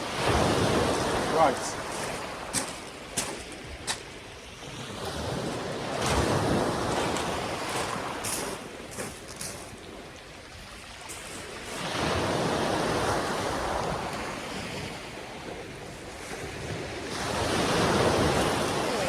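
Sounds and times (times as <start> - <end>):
sea waves washing up beach: 0.0 - 19.0.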